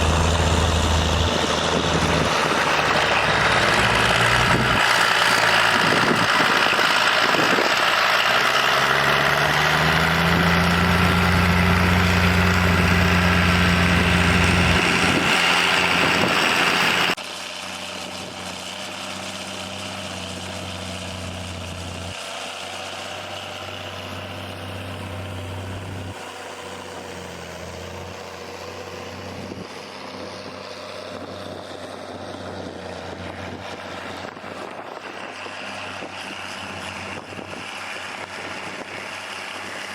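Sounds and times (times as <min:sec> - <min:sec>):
tractor engine: 0:00.0 - 0:39.9.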